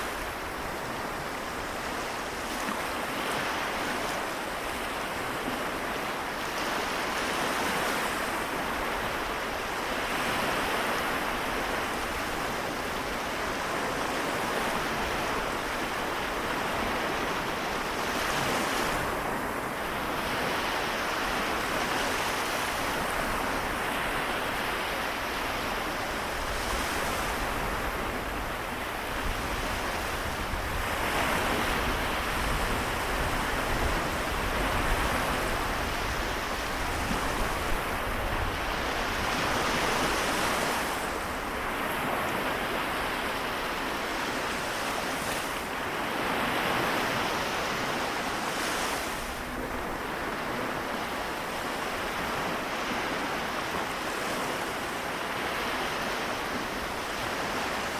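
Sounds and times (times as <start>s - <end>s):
small waves breaking on shore: 0.0s - 57.9s.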